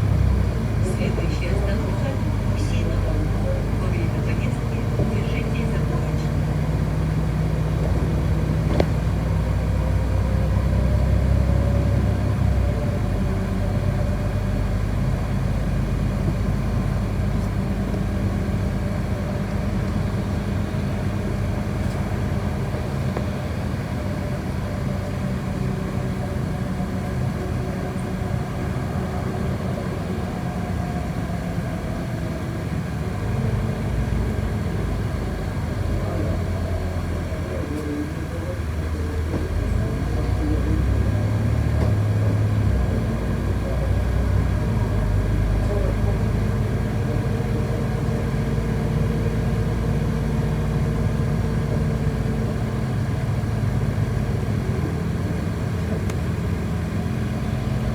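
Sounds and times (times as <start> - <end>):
bus engine hum: 0.0 - 57.9
road and tyre noise: 0.0 - 57.9.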